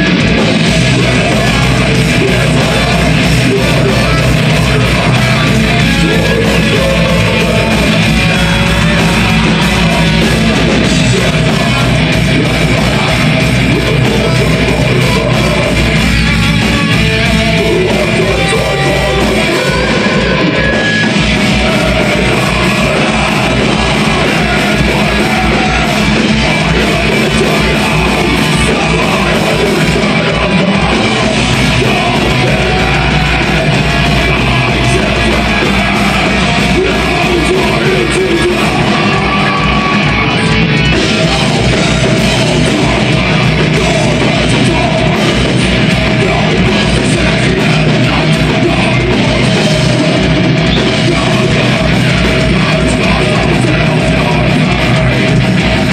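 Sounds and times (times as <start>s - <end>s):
bass guitar: 0.0s - 55.9s
distorted electric guitars: 0.0s - 55.9s
fast drumming: 0.0s - 55.9s
harsh shouted vocals: 0.0s - 55.9s.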